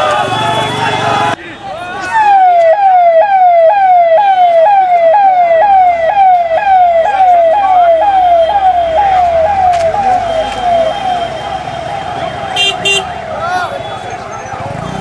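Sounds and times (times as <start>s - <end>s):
police siren: 0.0s - 14.7s.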